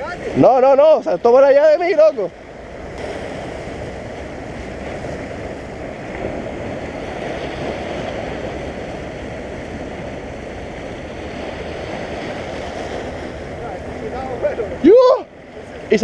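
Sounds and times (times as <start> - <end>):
surf washing over rocks: 0.0 - 16.0.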